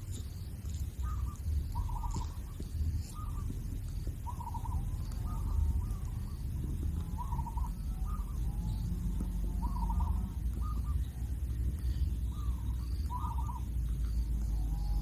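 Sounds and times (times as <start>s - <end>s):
chicks rattly calls: 0.0s - 15.0s
low rumble: 0.0s - 15.0s.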